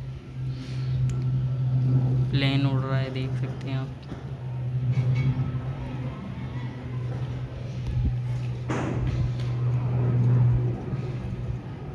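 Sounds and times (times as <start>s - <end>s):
jet engines rumbling: 0.0s - 11.9s.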